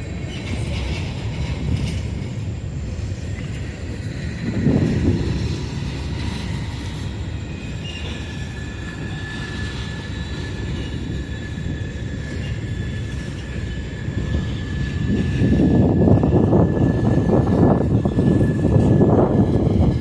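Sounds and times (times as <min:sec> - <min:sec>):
freight train wheels rumbling: 0:00.0 - 0:20.0
high squeal: 0:00.0 - 0:20.0.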